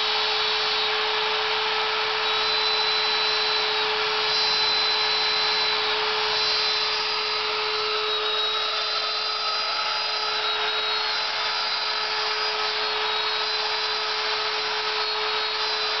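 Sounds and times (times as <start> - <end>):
endmill milling plywood: 0.0 - 16.0
router spindle whine: 0.0 - 16.0.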